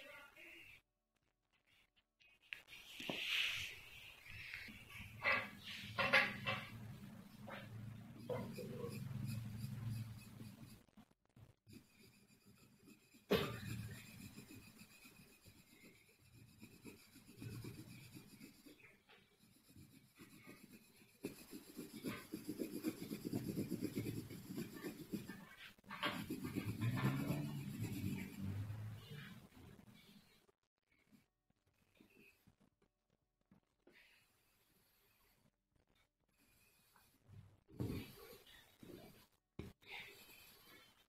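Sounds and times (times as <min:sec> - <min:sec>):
pencil scratching on paper: 0:02.6 - 0:11.0, 0:11.6 - 0:30.4, 0:34.1 - 0:35.4, 0:36.4 - 0:41.0.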